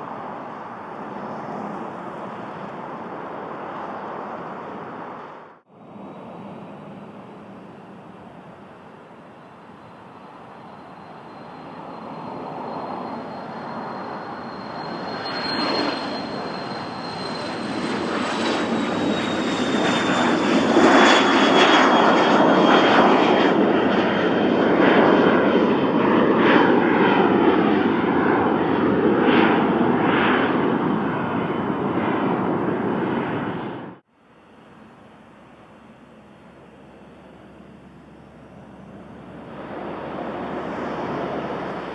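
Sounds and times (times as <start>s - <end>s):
high jet whine sliding down: 0.0s - 41.9s
jet roaring on takeoff: 0.0s - 41.9s.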